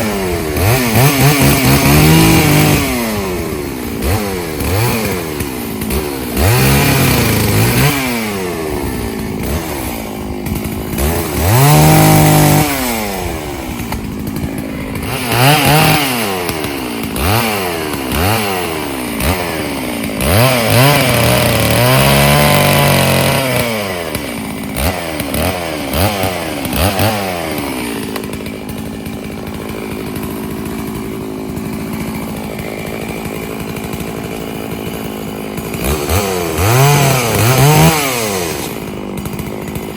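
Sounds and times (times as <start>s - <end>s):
chainsaw revving while cutting: 0.0s - 39.9s.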